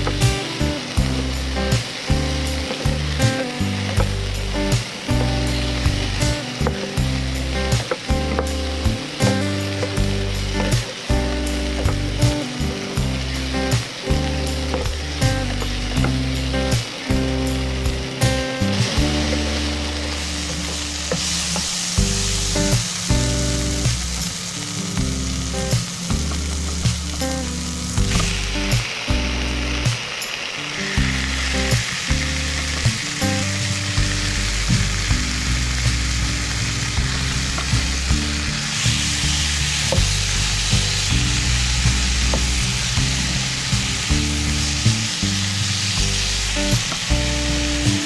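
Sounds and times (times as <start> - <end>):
background music with bass line: 0.0 - 30.3, 30.9 - 48.0.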